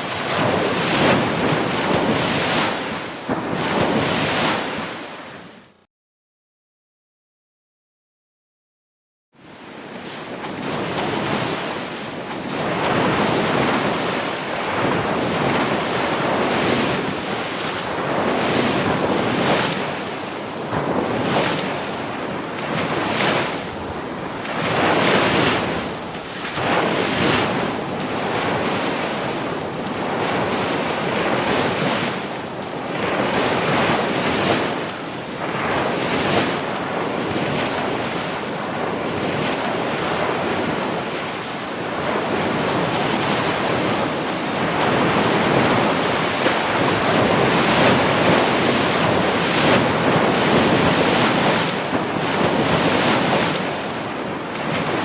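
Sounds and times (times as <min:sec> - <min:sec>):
ocean waves breaking: 0:00.0 - 0:05.8, 0:09.4 - 0:55.0.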